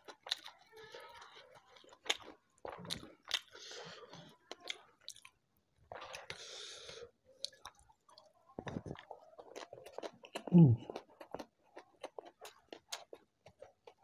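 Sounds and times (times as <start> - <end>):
close chewing with mouth smacks: 0.0 - 14.0.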